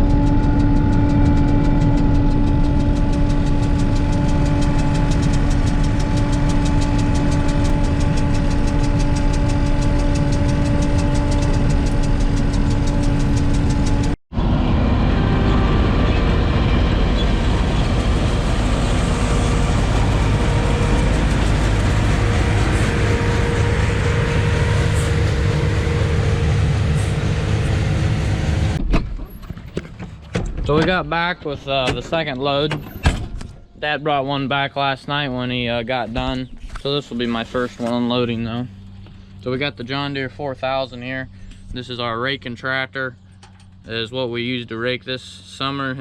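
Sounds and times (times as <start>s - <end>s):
deep machinery rumble: 0.0s - 46.0s
diesel engine running: 0.0s - 46.0s.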